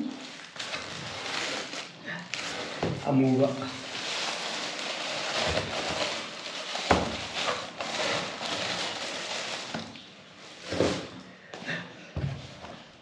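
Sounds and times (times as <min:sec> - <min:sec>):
tissue paper rustling: 0:00.0 - 0:11.1.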